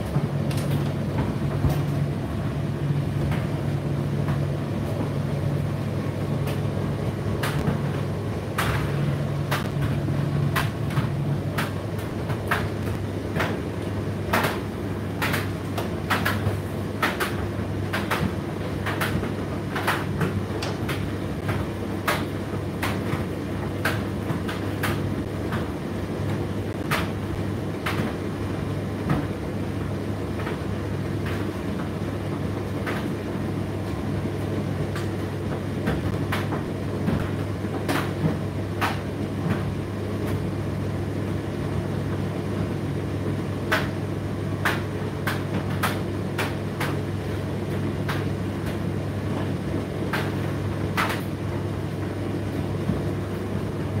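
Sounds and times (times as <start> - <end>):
tumble dryer humming: 0.0 - 54.0.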